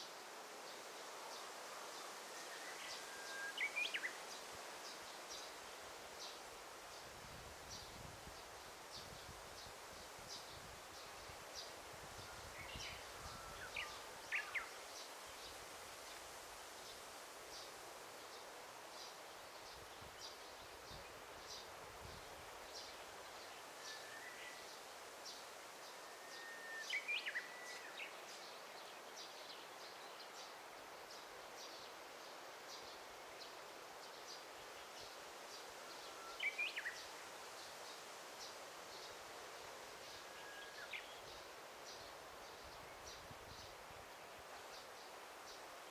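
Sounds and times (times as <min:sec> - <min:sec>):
soft steady hiss: 0:00.0 - 0:45.9.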